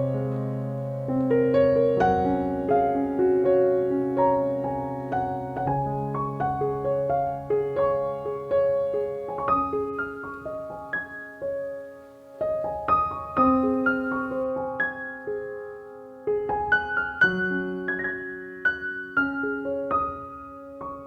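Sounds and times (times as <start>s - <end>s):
soft solo piano music: 0.0s - 21.0s.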